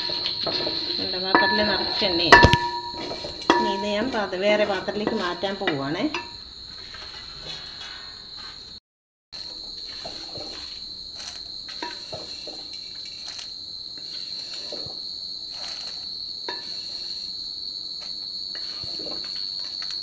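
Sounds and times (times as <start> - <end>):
metal spoon scraping a plate: 0.0 - 8.7, 9.8 - 17.4, 18.0 - 20.0.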